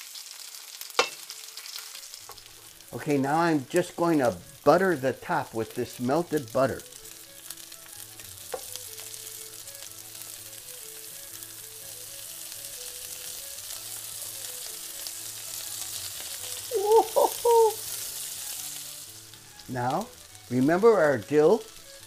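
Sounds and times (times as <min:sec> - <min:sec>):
fish sizzling in a pan: 0:00.0 - 0:22.0
quiet background music: 0:00.7 - 0:22.0.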